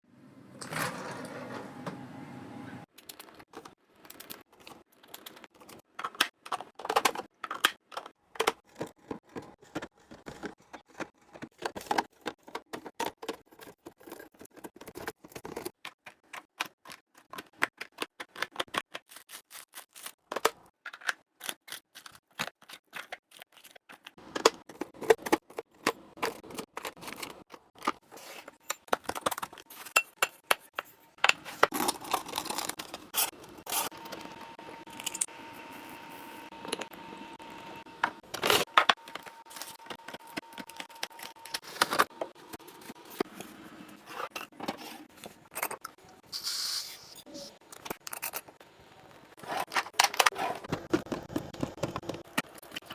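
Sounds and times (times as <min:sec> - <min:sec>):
food containers clicking and clinking: 0:02.9 - 0:18.9, 0:20.2 - 0:46.1, 0:47.6 - 0:52.9.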